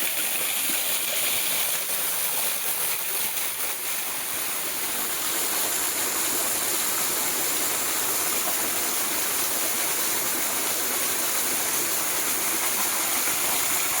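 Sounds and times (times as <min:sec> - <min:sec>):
waterfall splashing: 0:00.0 - 0:14.0.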